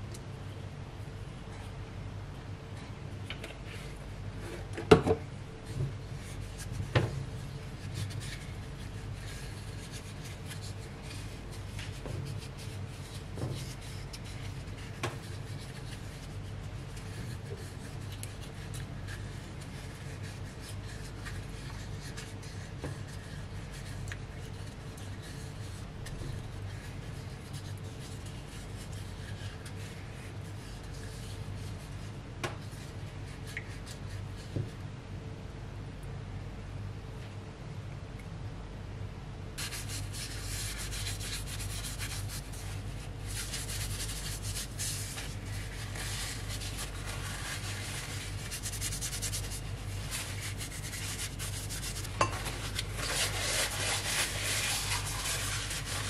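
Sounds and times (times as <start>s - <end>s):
low steady hum: 0.0s - 56.0s
oily hands rubbing wooden cup: 5.6s - 34.6s, 39.6s - 56.0s.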